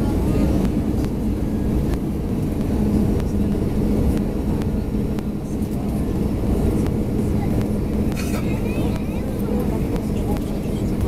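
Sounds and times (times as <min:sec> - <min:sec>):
aircraft cabin engine rumble: 0:00.0 - 0:11.0
low hum: 0:00.0 - 0:11.0.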